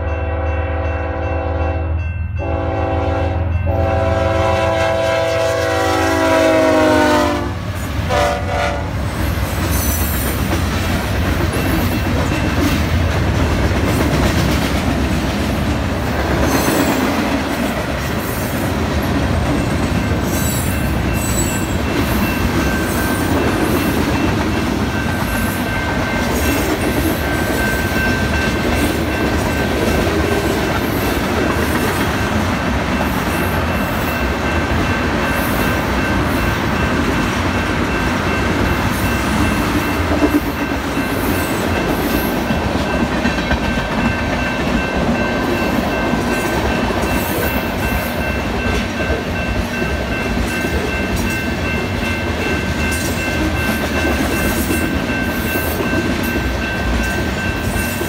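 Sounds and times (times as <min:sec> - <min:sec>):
train wheels rumbling on rails: 0:02.3 - 0:58.0.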